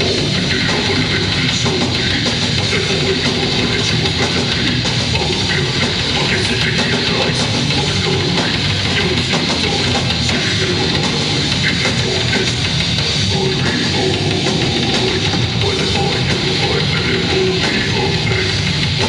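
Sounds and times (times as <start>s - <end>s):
distorted electric guitars: 0.0s - 19.0s
drum kit: 0.0s - 19.0s.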